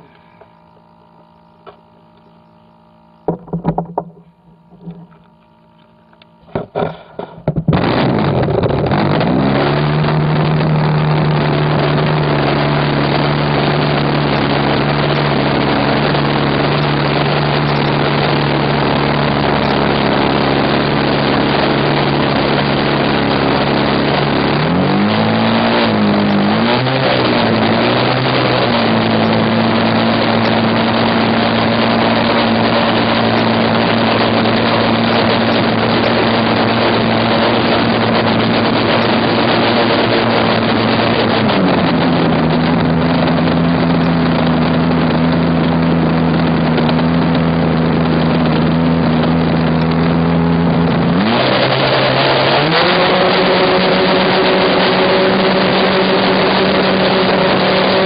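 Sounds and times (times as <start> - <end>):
model airplane engine running: 0.0 - 58.0.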